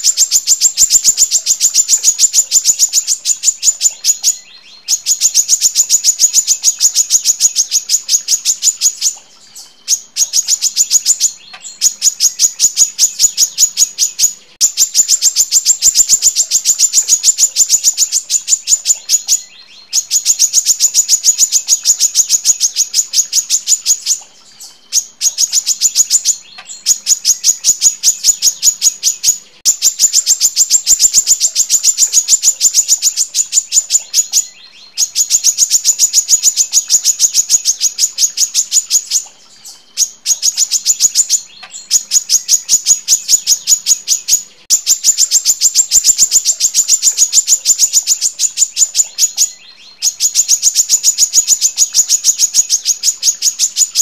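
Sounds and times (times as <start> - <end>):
bird calling high-pitched notes: 0.0 - 54.0.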